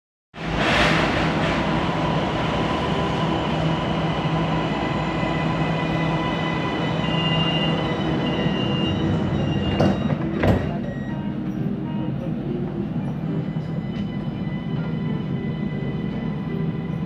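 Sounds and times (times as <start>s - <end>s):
train wheels rolling on rail: 0.4s - 17.0s.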